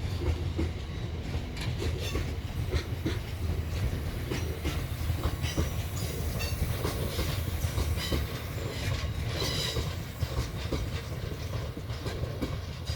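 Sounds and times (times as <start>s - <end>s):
freight train rumble: 0.0s - 12.9s
wheels clattering over rail joints: 0.0s - 12.9s.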